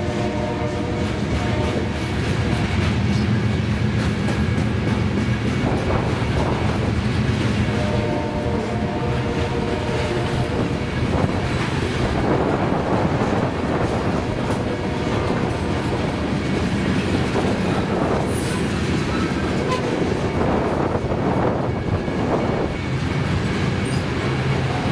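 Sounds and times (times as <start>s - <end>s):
freight train wheels on rails: 0.0s - 24.9s.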